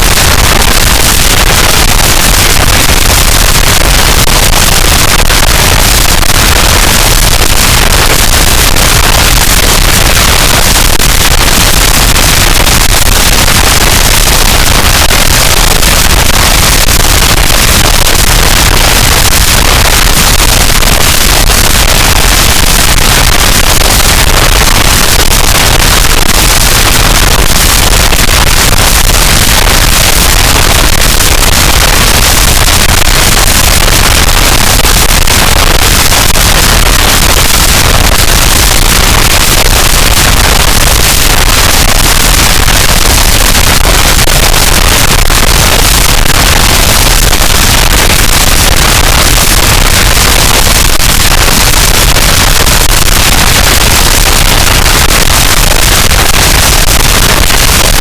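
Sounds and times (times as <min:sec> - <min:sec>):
distorted noise wall: 0:00.0 - 0:58.0.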